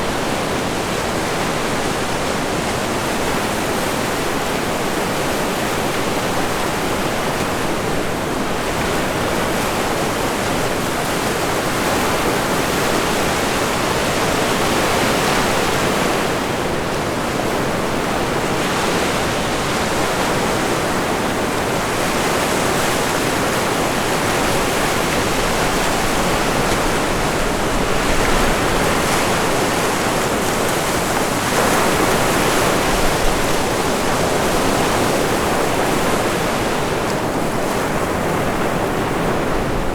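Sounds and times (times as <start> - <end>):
ocean surf breaking: 6.1 - 39.9.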